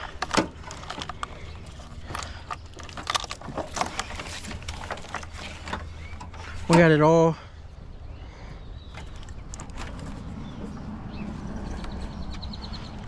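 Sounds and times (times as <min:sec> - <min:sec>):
wiring clicks and rustles: 0:00.0 - 0:07.0, 0:08.9 - 0:13.0.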